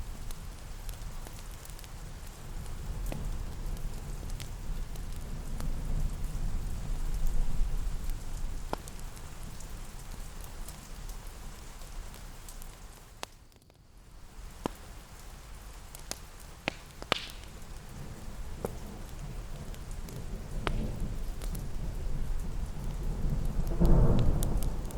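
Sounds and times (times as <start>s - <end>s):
steady rain pattering: 0.0s - 24.9s
sharp crackles and clicks: 0.2s - 6.2s, 7.1s - 13.8s, 14.4s - 24.9s.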